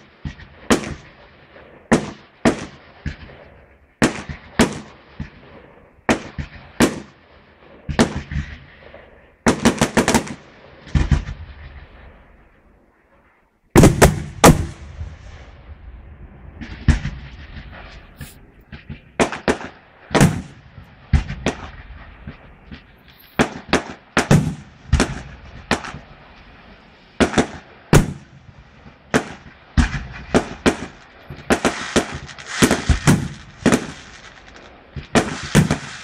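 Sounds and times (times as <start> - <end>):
fireworks bangs with rumbling echo: 0.0 - 36.0.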